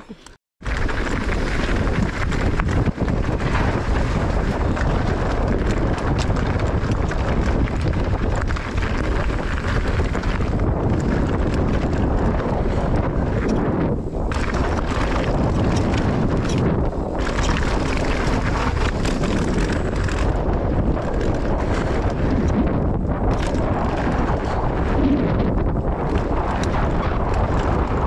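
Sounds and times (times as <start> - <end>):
bike knocks and rattles: 0.6 - 28.0
bike tyres on dirt: 0.6 - 28.0
wind rushing over microphone: 0.6 - 28.0.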